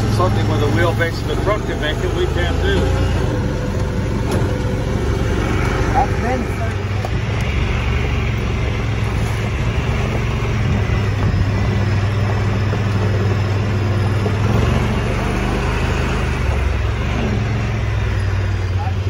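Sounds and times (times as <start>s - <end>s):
off-road vehicle engine running: 0.0s - 19.0s
road noise: 0.0s - 19.0s.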